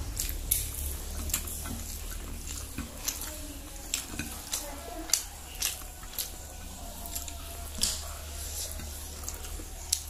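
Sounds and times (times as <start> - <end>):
person chewing with mouth smacks: 0.0 - 10.0
steady low hum: 0.0 - 10.0.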